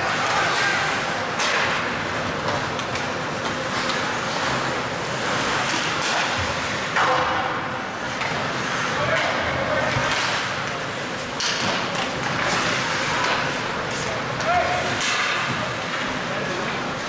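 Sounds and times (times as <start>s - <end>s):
hockey sticks and puck clacking: 0.0s - 16.9s.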